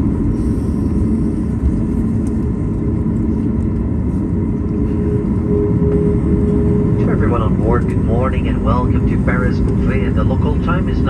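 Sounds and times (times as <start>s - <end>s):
airplane cabin low rumble: 0.0s - 11.0s
steady hum: 0.0s - 11.0s.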